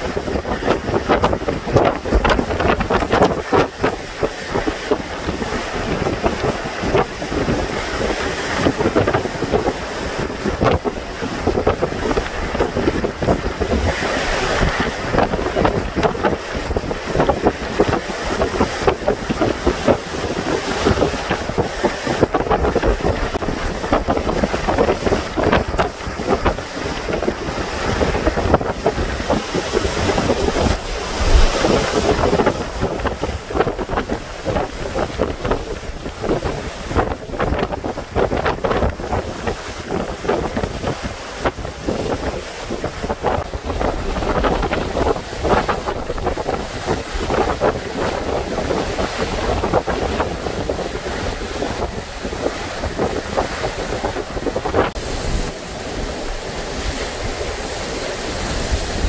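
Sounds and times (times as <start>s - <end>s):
howling wind: 0.0s - 59.0s
wind buffeting microphone: 0.0s - 59.0s
wind-driven rain: 0.0s - 59.0s.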